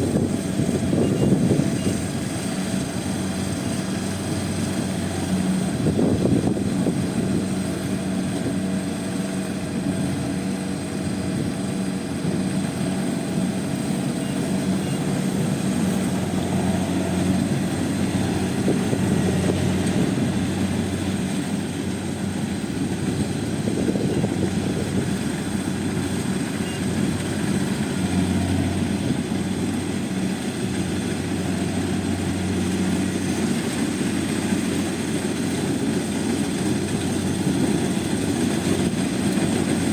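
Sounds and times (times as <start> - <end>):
combine harvester engine droning: 0.0 - 39.9
machinery rattling: 0.0 - 39.9.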